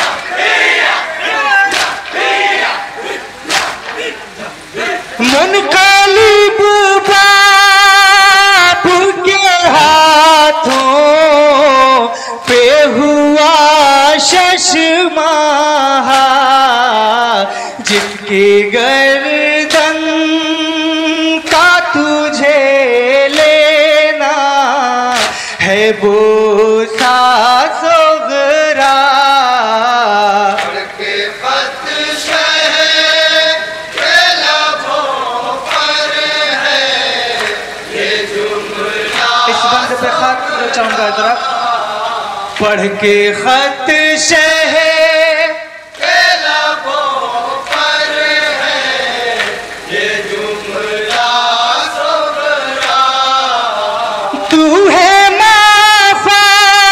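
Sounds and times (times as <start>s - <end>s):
rhythmic chest-beating: 0.0s - 15.3s, 17.4s - 43.2s, 45.9s - 56.9s
men chanting a lament: 0.0s - 56.9s.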